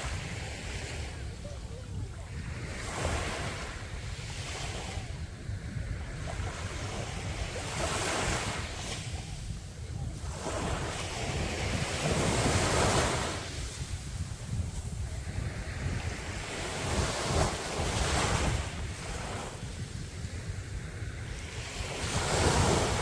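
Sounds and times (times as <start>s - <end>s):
sea waves washing onto beach: 0.0s - 23.0s
wind rumble on microphone: 0.0s - 23.0s.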